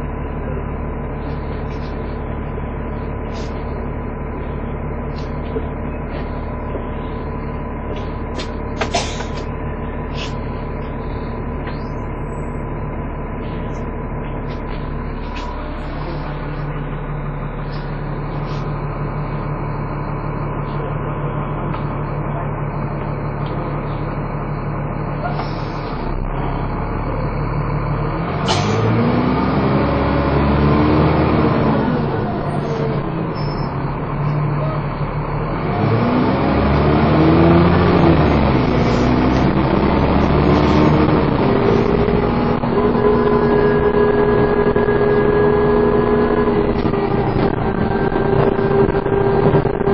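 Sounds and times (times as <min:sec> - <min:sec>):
bus engine running: 0:00.0 - 0:49.9.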